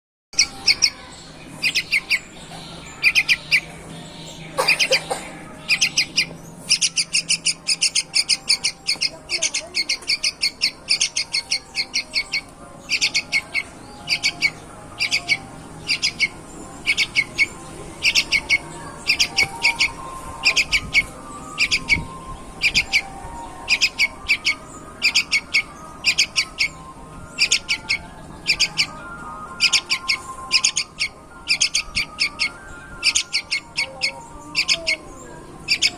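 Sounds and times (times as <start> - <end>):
bird chirping rapidly: 0.4 - 35.9.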